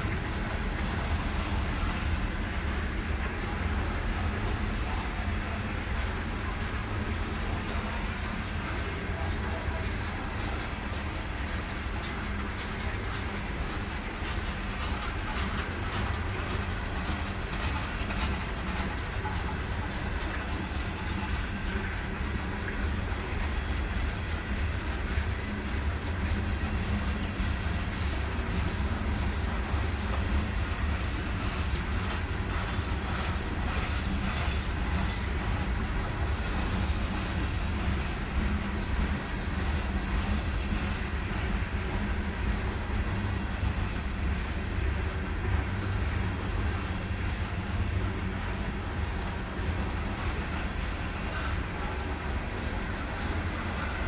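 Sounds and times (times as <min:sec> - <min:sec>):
train wheels rumbling on rails: 0:00.0 - 0:54.0
wheels clacking over rail joints: 0:00.0 - 0:54.0.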